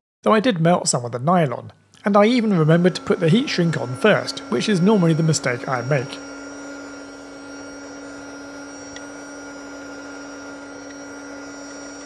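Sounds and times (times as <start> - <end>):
heat gun humming and hissing: 2.1 - 12.0.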